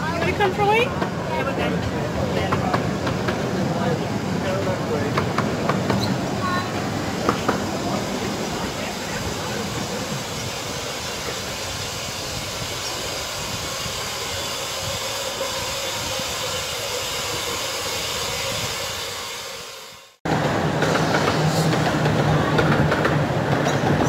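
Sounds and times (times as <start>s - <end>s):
steam locomotive hissing: 2.1s - 24.0s.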